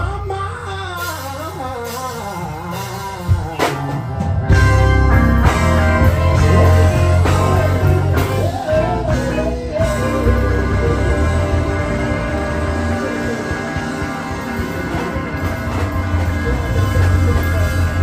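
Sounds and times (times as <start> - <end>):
man singing: 0.0 - 5.2, 5.9 - 18.0
bass: 0.0 - 18.0
drums: 0.0 - 18.0
electric guitar: 0.0 - 18.0.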